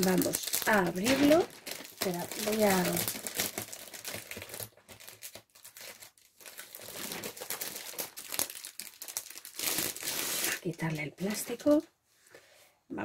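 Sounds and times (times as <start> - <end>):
plastic wrapper crinkling: 0.0 - 11.9.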